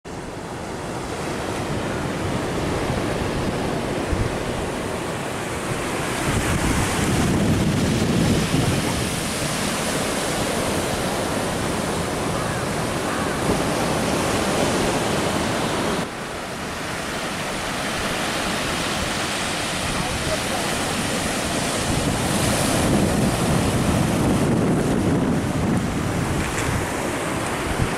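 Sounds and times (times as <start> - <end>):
surf washing up beach: 0.1 - 27.9
wind buffeting microphone: 1.1 - 16.1, 16.7 - 27.9.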